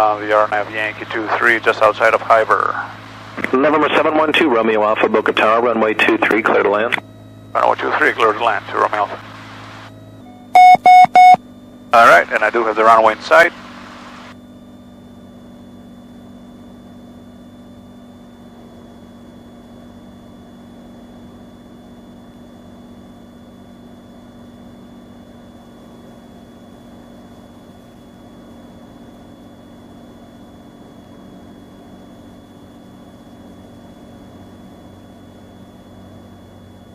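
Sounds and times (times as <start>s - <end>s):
propeller plane engine drone: 0.0s - 36.9s.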